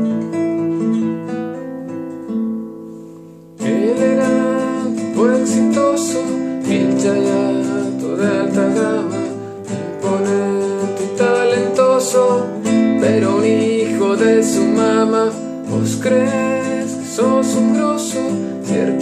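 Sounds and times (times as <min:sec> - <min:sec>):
classical guitar strumming: 0:00.0 - 0:19.0.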